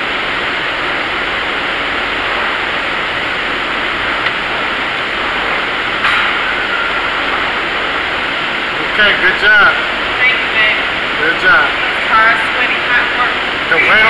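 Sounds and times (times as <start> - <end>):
steady rushing background noise: 0.0 - 14.0.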